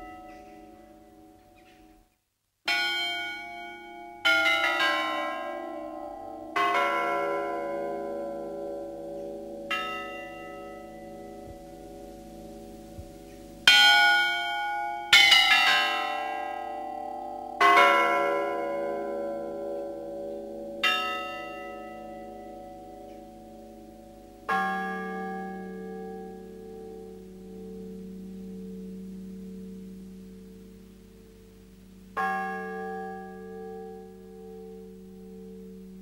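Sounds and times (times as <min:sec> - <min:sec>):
church bells ringing: 0:00.0 - 0:01.9, 0:02.7 - 0:36.0.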